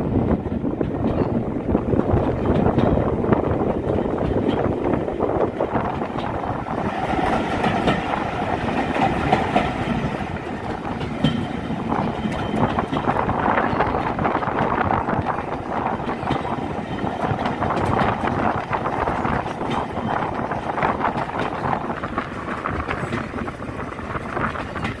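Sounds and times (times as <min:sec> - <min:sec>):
steady rushing noise: 0:00.0 - 0:25.0
wheels clattering over rails: 0:00.6 - 0:25.0.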